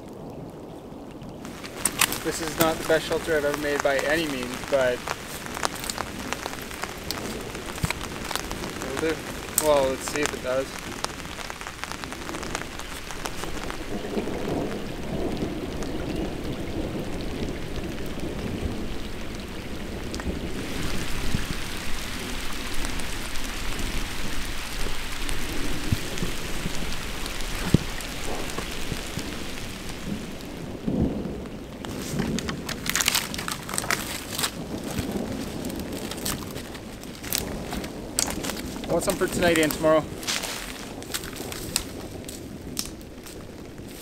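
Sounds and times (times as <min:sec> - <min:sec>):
heavy rain falling on a lake: 0:00.0 - 0:44.0
rain pattering on a tarp: 0:00.0 - 0:44.0.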